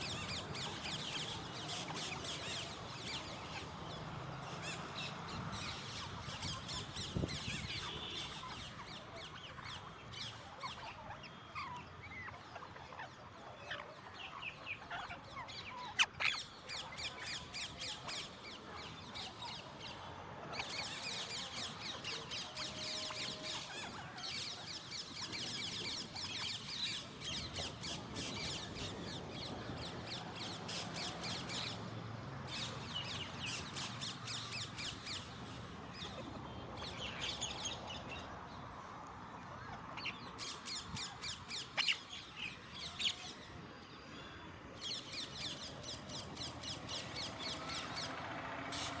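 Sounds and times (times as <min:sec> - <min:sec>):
parakeets calling: 0:00.0 - 0:19.9, 0:20.6 - 0:31.9, 0:32.5 - 0:38.3, 0:39.6 - 0:43.5, 0:44.8 - 0:49.0.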